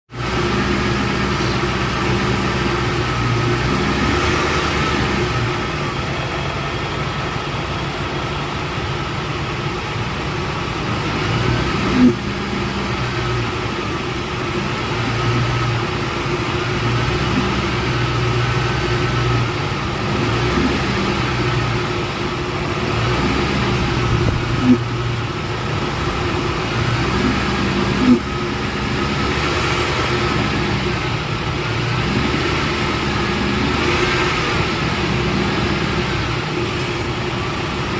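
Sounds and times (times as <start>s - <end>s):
truck engine idling: 0.0s - 37.9s
faint whine: 0.1s - 37.9s.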